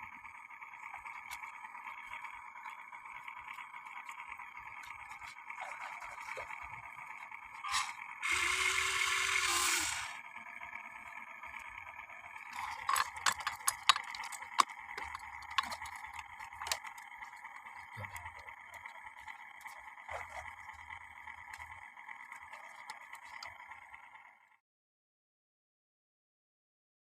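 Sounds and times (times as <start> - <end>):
small electric motor whining: 0.0 - 24.6.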